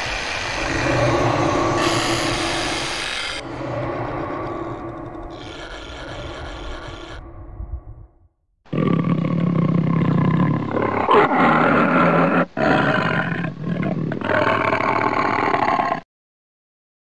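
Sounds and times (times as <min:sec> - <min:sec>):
tiger roaring: 0:00.2 - 0:07.3, 0:08.7 - 0:16.0.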